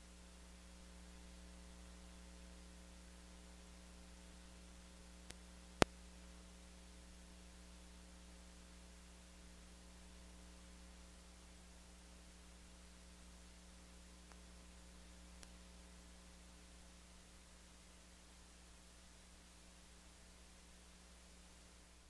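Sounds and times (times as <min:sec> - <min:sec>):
low electrical hum with hiss: 0:00.0 - 0:22.0.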